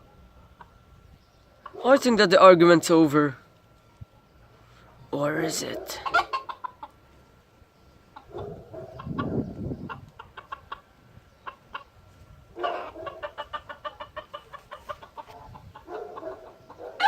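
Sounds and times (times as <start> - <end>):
chickens clucking: 0.0 - 2.2, 4.1 - 17.0.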